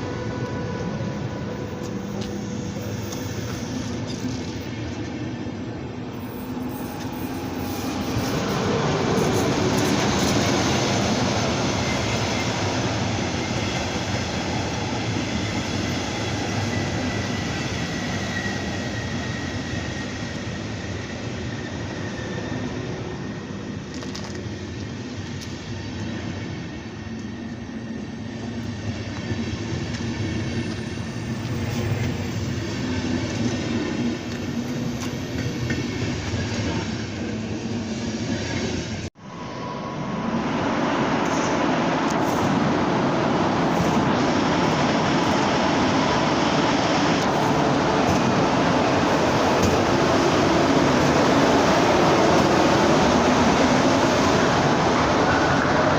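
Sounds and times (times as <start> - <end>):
train rumbling past on rails: 0.0 - 55.9.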